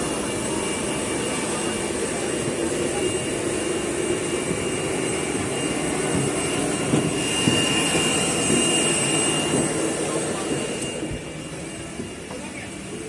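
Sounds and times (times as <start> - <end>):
high-pitched whine: 0.0 - 13.0
jet engine roar in cabin: 0.0 - 13.0.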